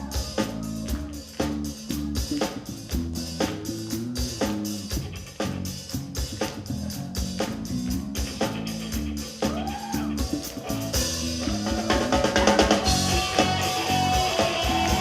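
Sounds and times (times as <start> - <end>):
repeating bass line: 0.0 - 15.0.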